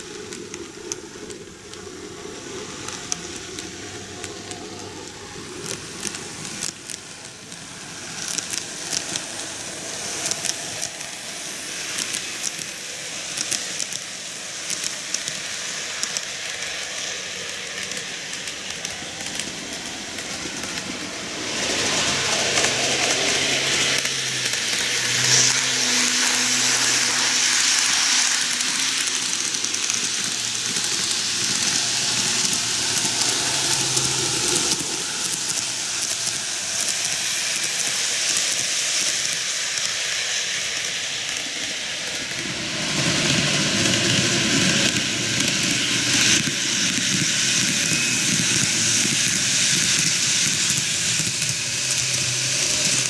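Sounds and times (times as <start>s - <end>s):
model train motors whirring: 0.0s - 53.0s
small wheels rattling on rails: 0.0s - 53.0s.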